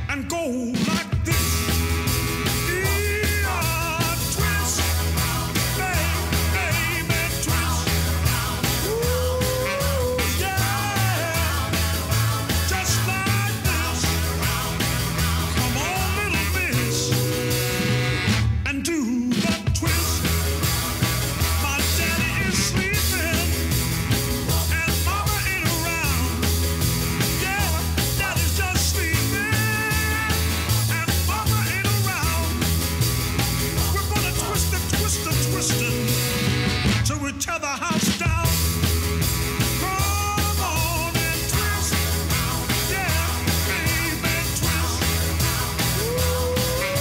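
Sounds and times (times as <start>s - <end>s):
bass line: 0.0s - 18.9s, 19.6s - 37.4s, 38.3s - 47.0s
upbeat rock music: 0.0s - 47.0s
drum beat: 0.7s - 18.6s, 19.3s - 37.1s, 37.9s - 47.0s.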